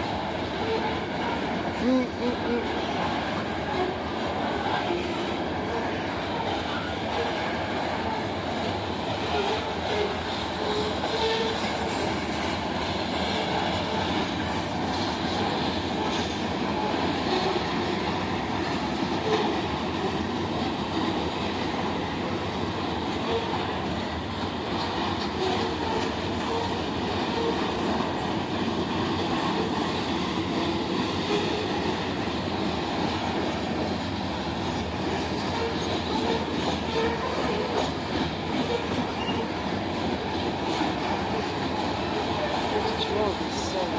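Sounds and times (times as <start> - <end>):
train cars rolling on rails: 0.0 - 43.9.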